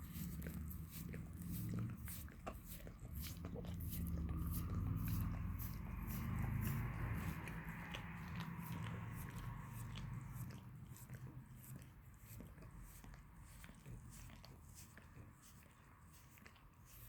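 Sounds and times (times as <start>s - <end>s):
dog licking wet smacking: 0.0s - 17.0s.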